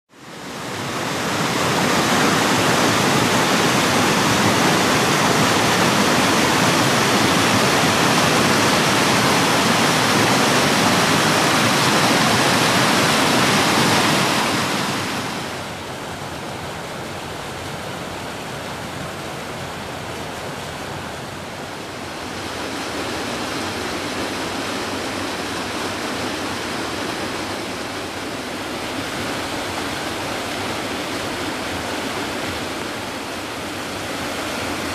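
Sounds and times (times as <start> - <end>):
river rapids rushing: 0.1 - 34.9.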